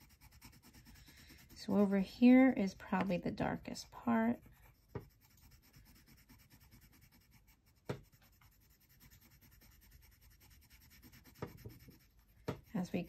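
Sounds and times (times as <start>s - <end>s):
pencil scratching on paper: 0.0s - 13.0s.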